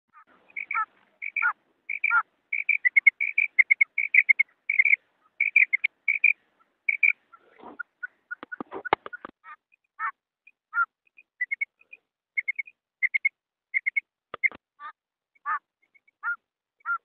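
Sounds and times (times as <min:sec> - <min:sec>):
quail calling: 0:00.1 - 0:17.0.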